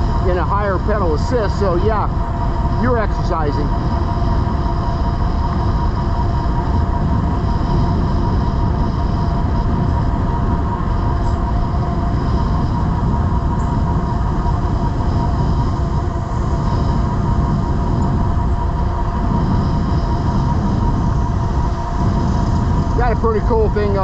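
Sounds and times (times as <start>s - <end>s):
electric motor whine: 0.0s - 24.0s
wind on microphone: 0.0s - 24.0s.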